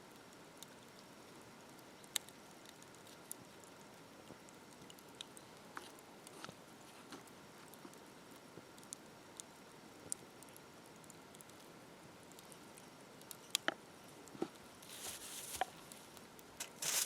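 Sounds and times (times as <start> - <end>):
campfire crackling: 0.0 - 17.0
low steady hiss: 0.0 - 17.0.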